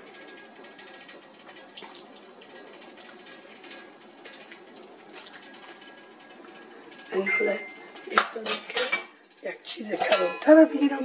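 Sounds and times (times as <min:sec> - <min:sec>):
liquid pouring and splashing: 0:00.0 - 0:09.5.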